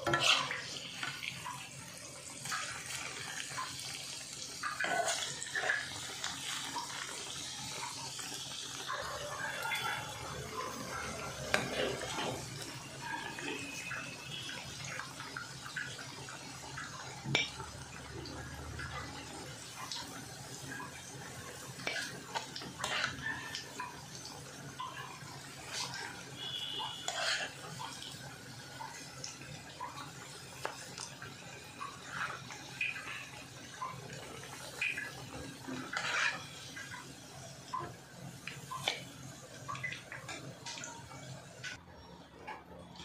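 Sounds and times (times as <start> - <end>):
food deep-frying in oil: 0.0 - 43.0.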